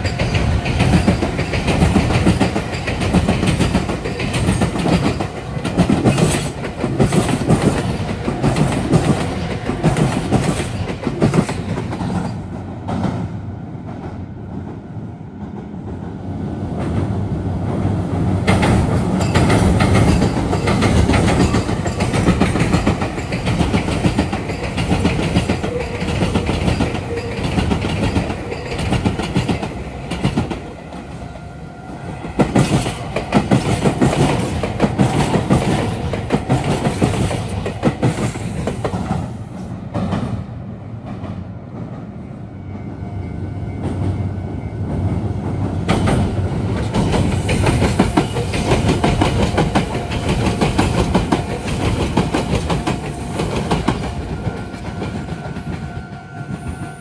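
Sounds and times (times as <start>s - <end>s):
train wheels clattering over rails: 0.0s - 14.7s, 16.7s - 31.2s, 32.0s - 40.4s, 44.9s - 57.0s
train rumble: 0.0s - 57.0s.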